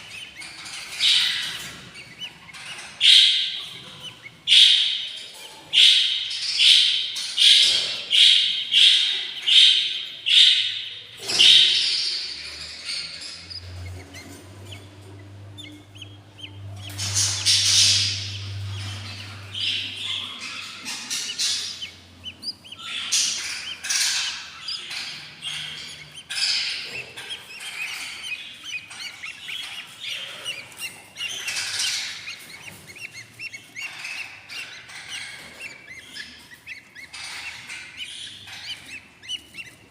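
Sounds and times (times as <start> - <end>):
bird chicks begging chirps: 0.0 - 39.9.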